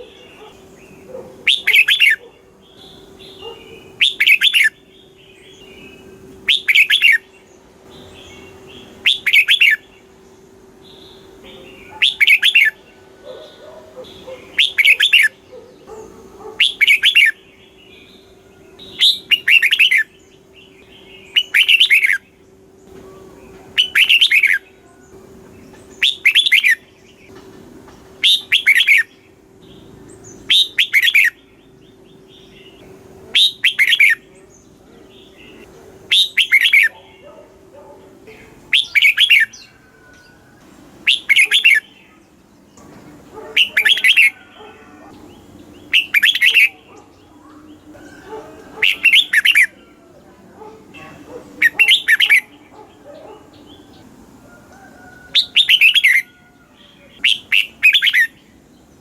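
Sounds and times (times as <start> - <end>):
bird singing warbling phrase: 0.0 - 27.3, 28.2 - 58.9.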